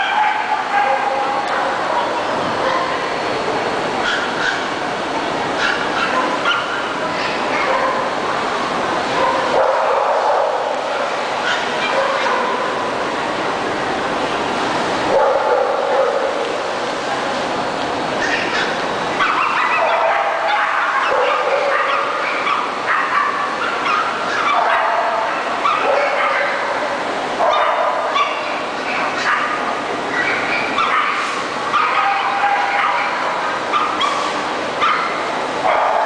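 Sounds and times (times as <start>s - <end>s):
dogs barking and yipping: 0.0s - 3.1s, 4.0s - 4.8s, 5.5s - 8.2s, 9.1s - 12.8s, 15.1s - 16.5s, 18.2s - 36.0s.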